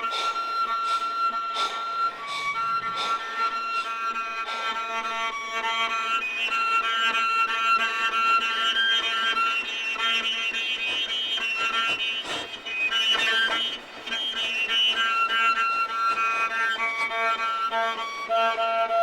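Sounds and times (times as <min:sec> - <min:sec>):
viola: 0:00.0 - 0:19.0.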